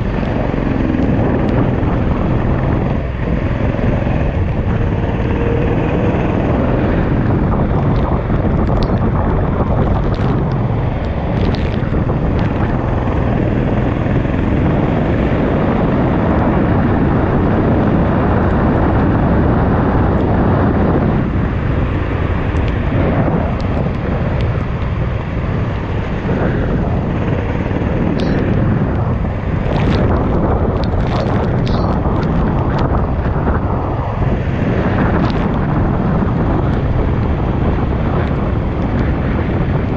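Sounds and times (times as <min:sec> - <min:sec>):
go-kart engine running: 0:00.0 - 0:39.9
wind buffeting on microphone: 0:00.0 - 0:39.9.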